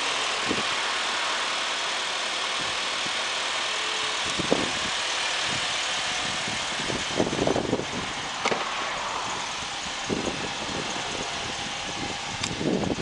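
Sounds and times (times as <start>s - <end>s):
car engine idling: 0.0s - 13.0s
low rumbles: 0.0s - 13.0s.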